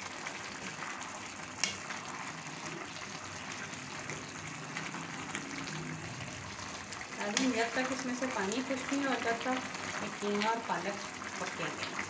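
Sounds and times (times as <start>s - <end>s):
food bubbling and sloshing in pan: 0.0s - 12.0s.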